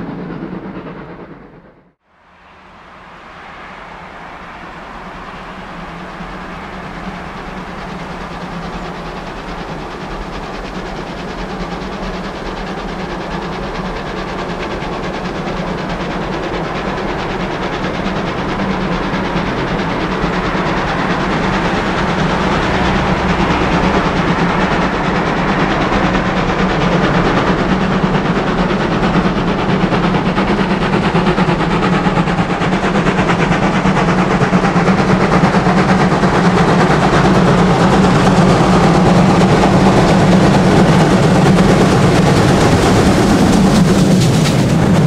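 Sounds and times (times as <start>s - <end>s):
steam locomotive exhaust beating: 0.0s - 45.0s.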